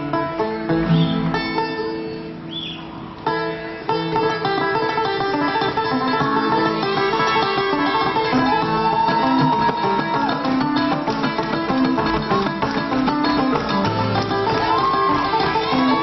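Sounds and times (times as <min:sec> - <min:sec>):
bluegrass string band playing: 0:00.0 - 0:16.0
picked banjo: 0:00.0 - 0:16.0.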